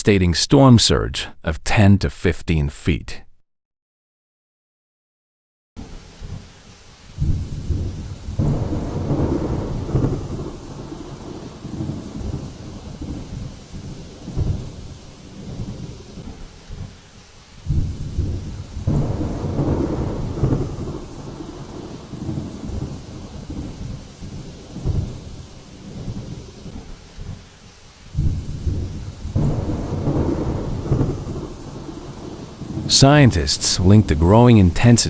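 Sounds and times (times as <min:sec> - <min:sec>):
rain: 0:05.8 - 0:35.0
thunder rumbling: 0:05.8 - 0:35.0.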